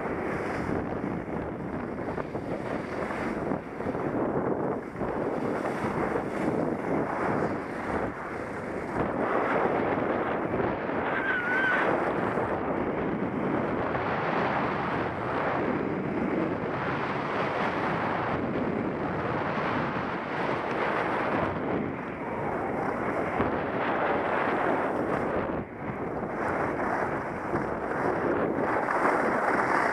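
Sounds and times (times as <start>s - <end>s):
skis scraping over snow: 0.0s - 29.9s
wind rushing over microphone: 0.0s - 29.9s.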